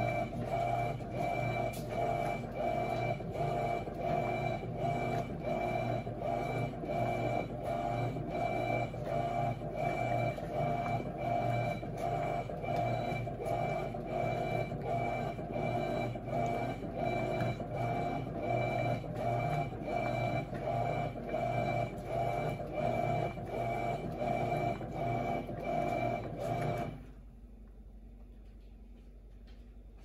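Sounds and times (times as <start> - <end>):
washing machine agitating: 0.0 - 27.0.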